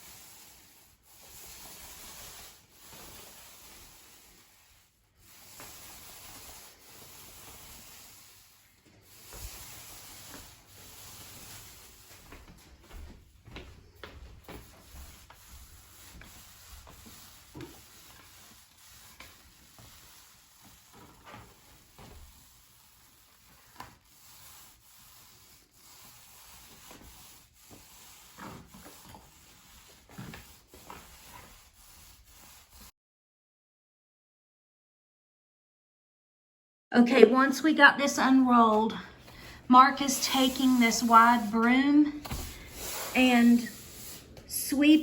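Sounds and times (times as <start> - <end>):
rubbing and scraping on floor: 0.0 - 32.9, 37.3 - 45.0.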